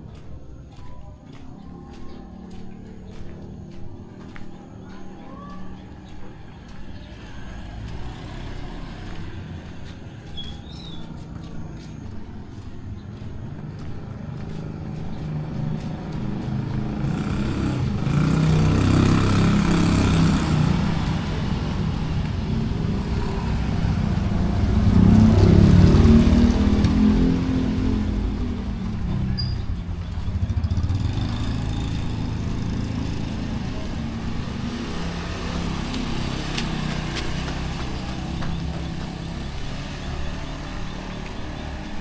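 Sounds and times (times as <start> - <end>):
vehicle engines passing: 0.0 - 42.0.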